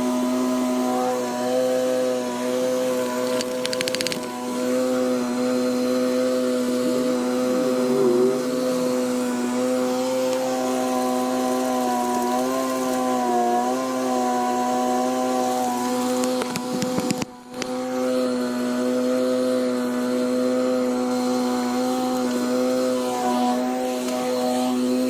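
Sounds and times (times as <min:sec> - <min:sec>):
motor droning hum: 0:00.0 - 0:25.0.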